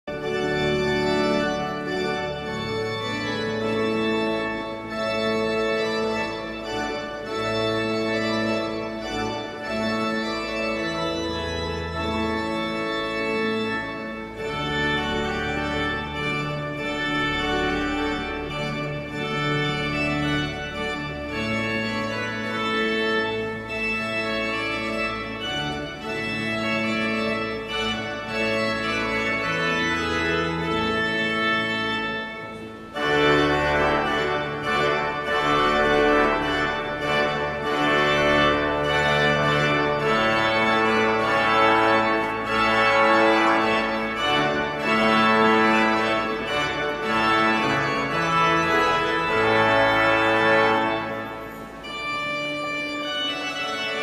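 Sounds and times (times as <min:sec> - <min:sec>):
pipe organ chords: 0:00.0 - 0:54.0.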